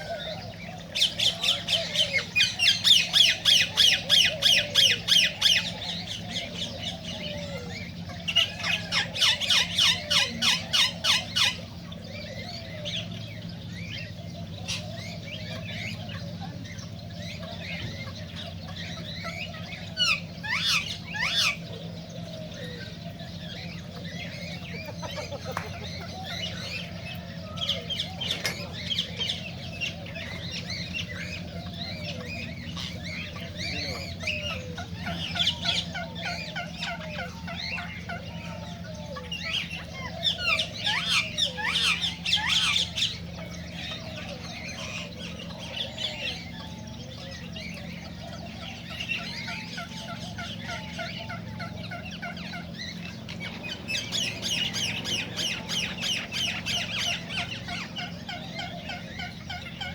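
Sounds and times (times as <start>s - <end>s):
cockatiels squawking: 0.0s - 13.1s, 13.8s - 21.8s, 23.0s - 59.9s.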